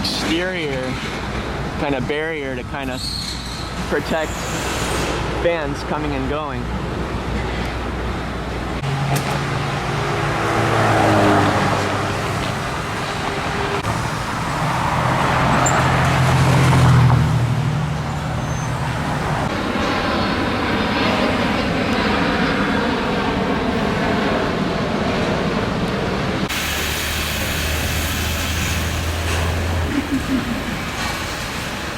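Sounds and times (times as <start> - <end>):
steady traffic noise: 0.0 - 31.9
vehicles passing by: 0.0 - 31.9.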